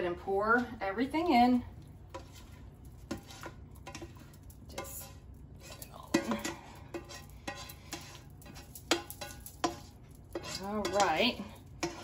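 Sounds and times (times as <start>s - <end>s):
utensil scraping frying pan: 0.6s - 12.0s.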